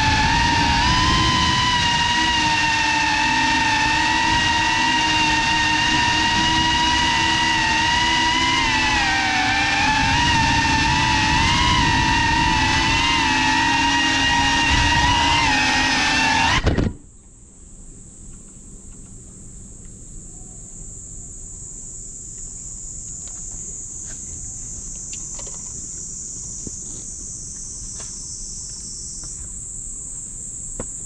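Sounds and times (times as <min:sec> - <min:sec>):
insects chorus shrilling: 0:00.0 - 0:16.7, 0:19.4 - 0:31.0.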